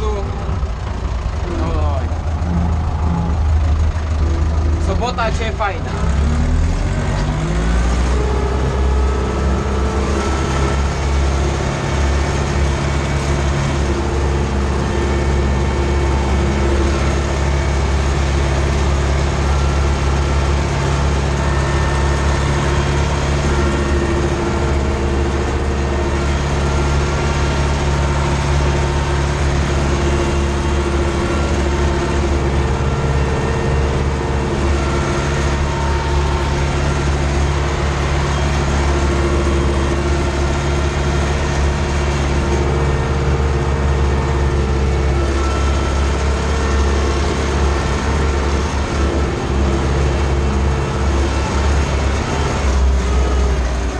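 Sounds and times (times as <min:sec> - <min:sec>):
tractor diesel engine under load: 0:00.0 - 0:53.9.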